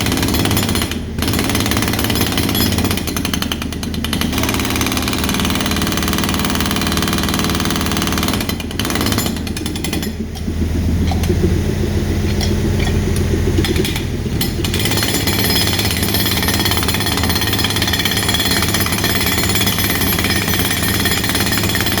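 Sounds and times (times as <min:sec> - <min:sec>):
deep machine rumble: 0:00.0 - 0:22.0
hydraulic hammer pounding: 0:00.0 - 0:22.0.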